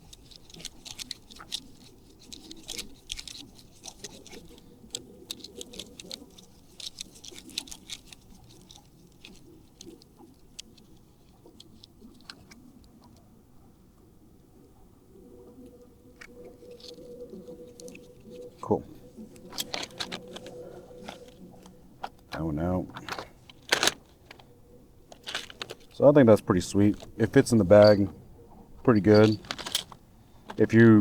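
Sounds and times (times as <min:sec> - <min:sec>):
hands handling small plastic parts: 0:00.0 - 0:13.3, 0:16.1 - 0:31.0.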